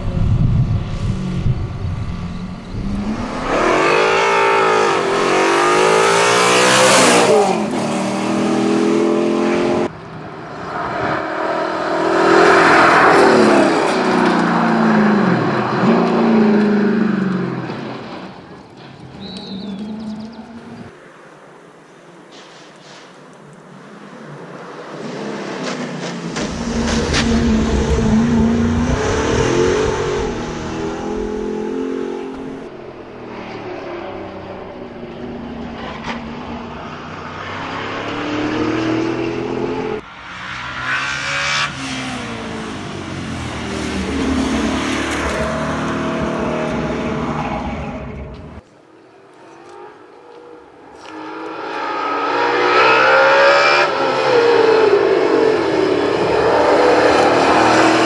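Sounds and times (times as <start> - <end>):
race car engine at hard throttle: 0.0 - 18.5, 24.4 - 48.6, 49.6 - 58.0.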